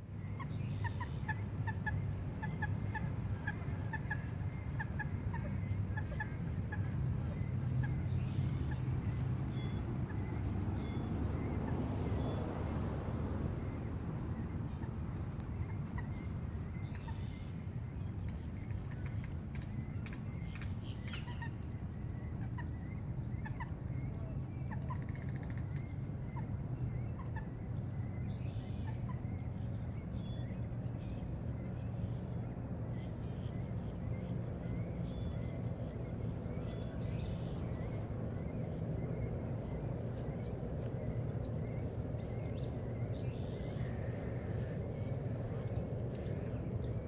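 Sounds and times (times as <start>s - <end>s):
birds chirping: 0.0s - 47.0s
steady low rumble: 0.0s - 47.0s.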